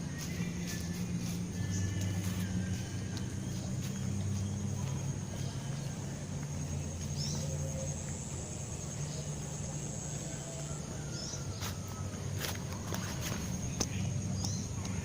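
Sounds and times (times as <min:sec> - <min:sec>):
engine humming: 0:00.0 - 0:15.0
high-pitched whine: 0:00.0 - 0:15.0
bird chirps: 0:00.1 - 0:09.9, 0:11.0 - 0:15.0.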